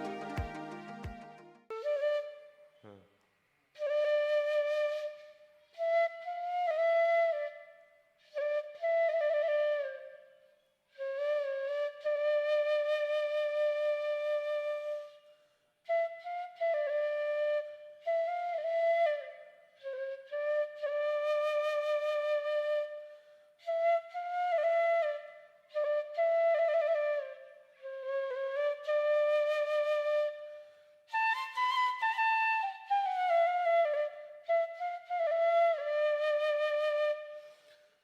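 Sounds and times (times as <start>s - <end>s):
solo flute melody: 0.0s - 2.9s, 3.8s - 38.0s.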